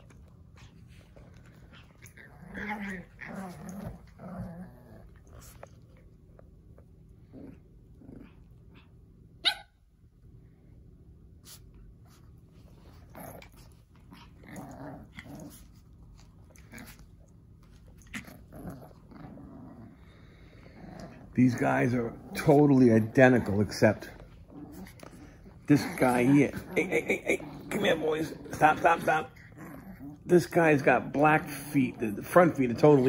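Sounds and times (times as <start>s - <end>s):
puppies growling: 0.0s - 9.5s, 12.0s - 33.0s.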